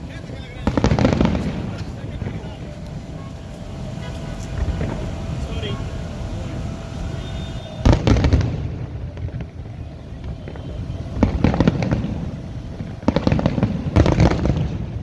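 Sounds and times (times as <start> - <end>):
fireworks bangs and crackles: 0.0 - 15.0
low background rumble: 0.0 - 15.0.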